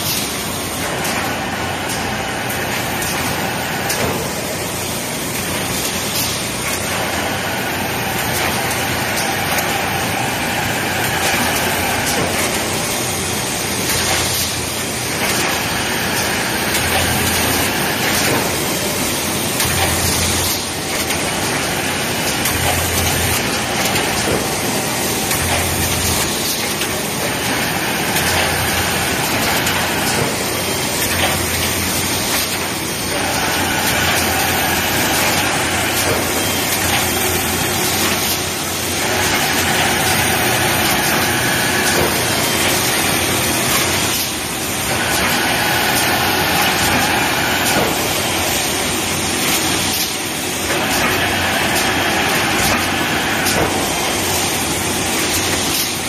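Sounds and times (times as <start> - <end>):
loud mechanical machine noise: 0.0 - 56.0.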